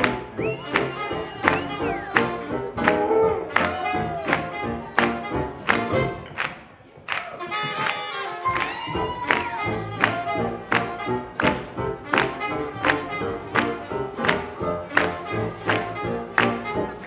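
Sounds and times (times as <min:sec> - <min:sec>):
live swing band playing: 0:00.0 - 0:06.4, 0:07.4 - 0:17.0.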